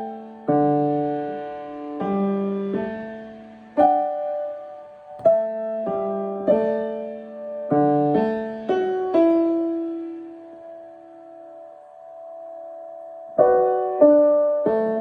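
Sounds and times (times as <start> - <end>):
piano chords played slowly: 0.0 - 15.0.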